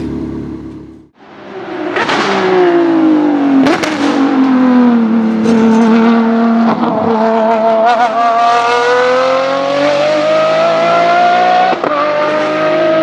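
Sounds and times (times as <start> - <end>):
racing engine accelerating hard: 1.8 - 13.0.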